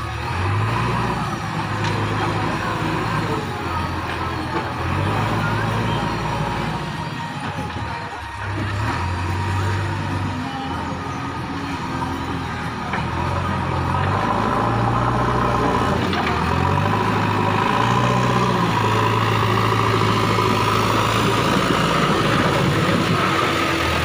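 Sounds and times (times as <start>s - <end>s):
backhoe diesel engine under load: 0.0s - 24.0s.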